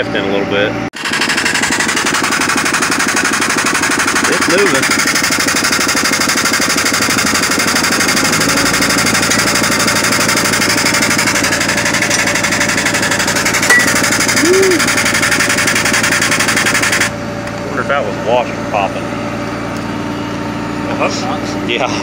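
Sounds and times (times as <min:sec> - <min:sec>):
engine running with even pulse: 0:00.2 - 0:22.0.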